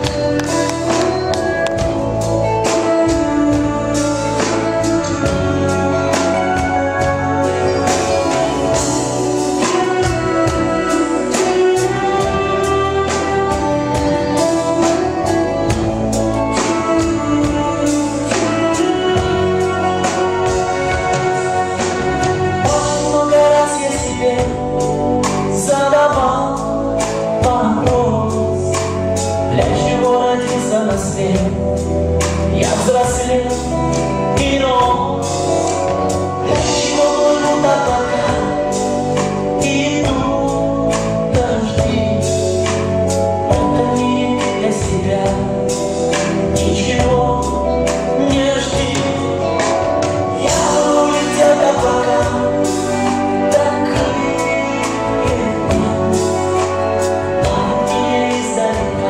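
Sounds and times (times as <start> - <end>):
live pop band playing: 0.0 - 59.0
person singing: 0.0 - 59.0.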